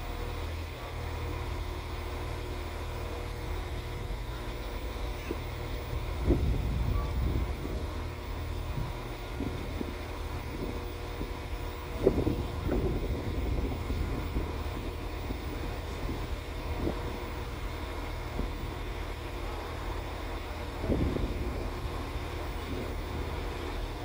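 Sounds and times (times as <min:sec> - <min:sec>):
train engine rumble: 0:00.0 - 0:24.0
wind buffeting microphone: 0:03.4 - 0:24.0.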